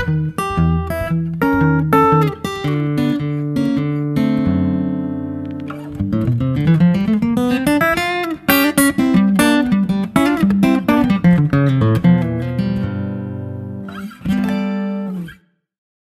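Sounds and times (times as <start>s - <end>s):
acoustic guitar music: 0.0s - 15.5s.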